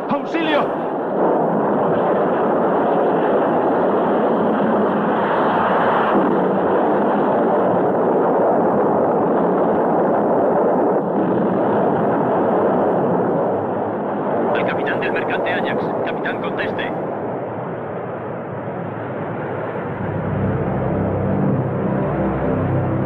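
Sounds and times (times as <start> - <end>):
muffled explosion rumble: 0.0 - 23.0.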